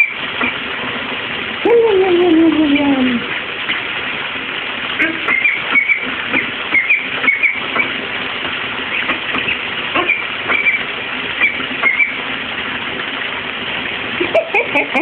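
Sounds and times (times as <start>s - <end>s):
tap water running into bathtub: 0.0s - 15.0s.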